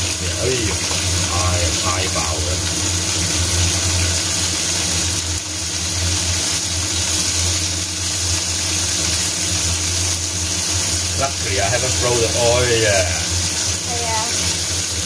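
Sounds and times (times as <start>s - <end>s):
low mechanical appliance hum: 0.0s - 15.0s
steak sizzling in oil in a pan: 0.0s - 15.0s.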